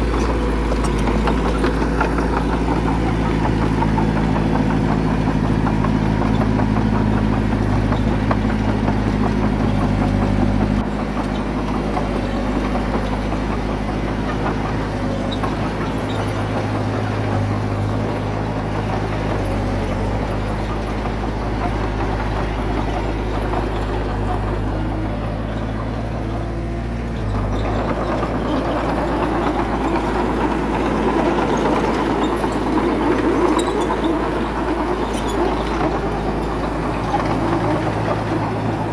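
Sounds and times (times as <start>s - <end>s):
bulldozer diesel engine running: 0.0s - 38.9s
engine clatter: 0.0s - 38.9s.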